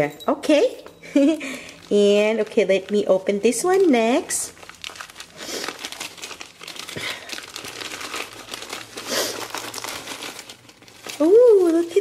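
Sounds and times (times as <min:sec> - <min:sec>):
wrapping paper crinkling: 0:01.1 - 0:12.0.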